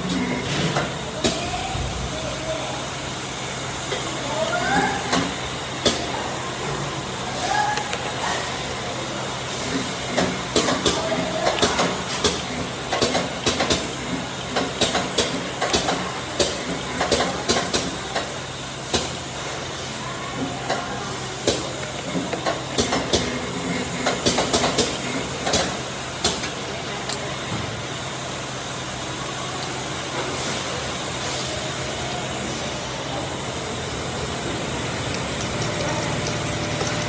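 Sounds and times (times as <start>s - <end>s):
factory machinery humming: 0.0s - 37.0s.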